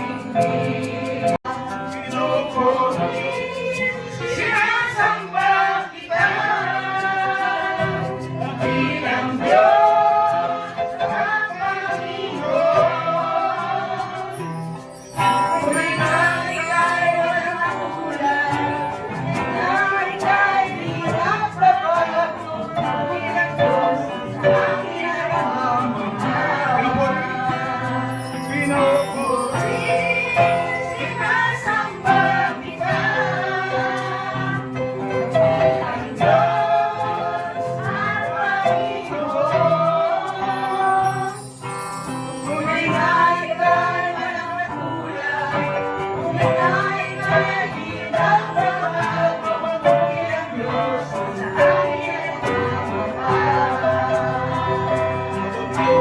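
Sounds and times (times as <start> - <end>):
group singing worship song: 0.0 - 56.0
instrumental accompaniment: 0.0 - 56.0.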